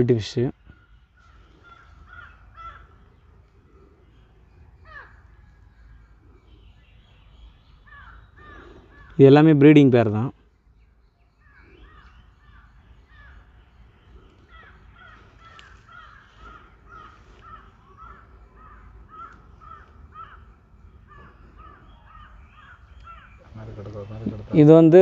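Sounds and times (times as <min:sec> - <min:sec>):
birds calling faintly: 0:00.0 - 0:25.0.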